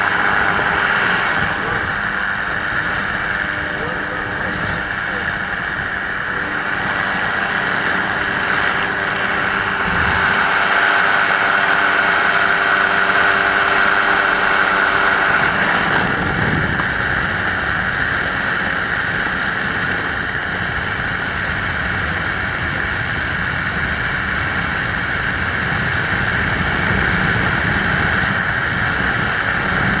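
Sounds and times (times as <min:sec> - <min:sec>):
aircraft engine and propeller: 0:00.0 - 0:30.0
wind rushing over microphone: 0:00.0 - 0:30.0.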